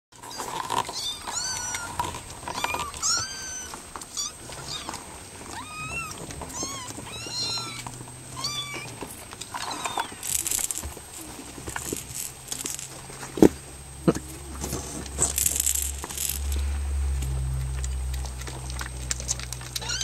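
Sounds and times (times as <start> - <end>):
kittens mewing: 0.2 - 16.6, 17.3 - 20.0
rustling: 0.2 - 20.0.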